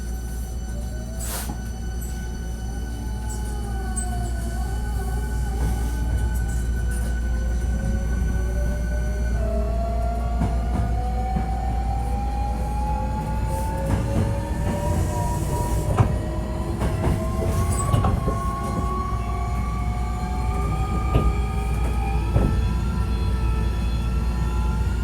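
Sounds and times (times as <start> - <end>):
low train rumble: 0.0 - 25.0.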